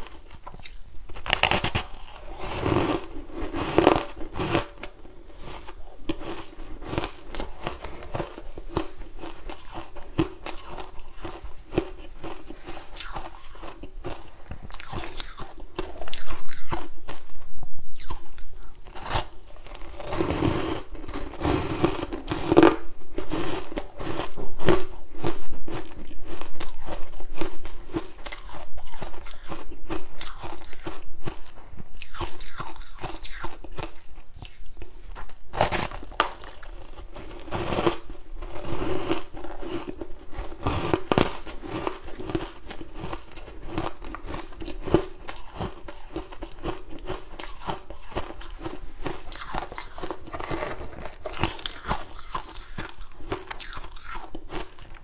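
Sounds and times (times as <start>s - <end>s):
person chewing ice: 0.0s - 55.0s.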